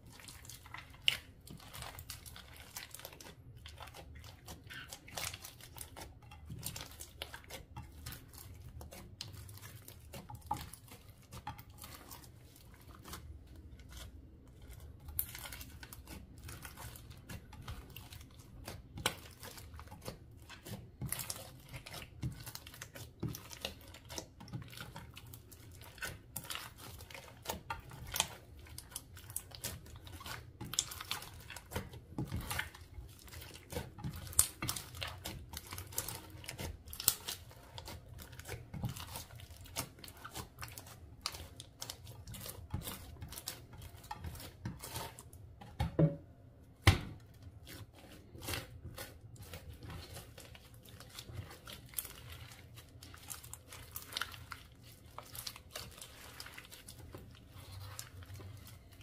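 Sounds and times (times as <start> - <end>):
slime squishing and crackling: 0.0 - 46.0, 46.7 - 59.0.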